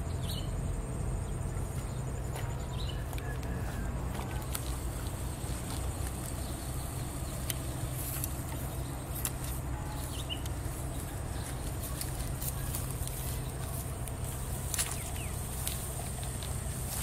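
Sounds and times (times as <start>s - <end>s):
steady low rumble: 0.0s - 17.0s
footsteps through leafy plants: 1.6s - 17.0s.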